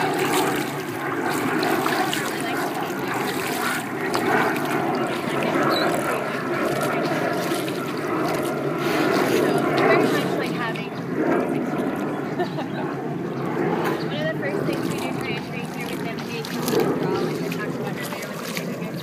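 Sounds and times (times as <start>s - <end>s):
water splashing and lapping: 0.0s - 19.0s.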